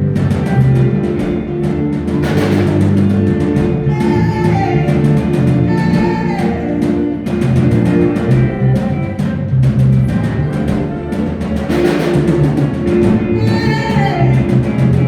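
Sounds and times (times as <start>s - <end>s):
steady drum beat: 0.0s - 15.0s
worship band music: 0.0s - 15.0s.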